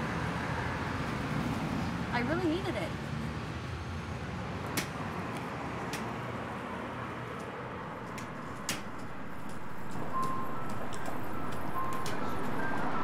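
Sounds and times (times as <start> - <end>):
street background noise: 0.0 - 13.0.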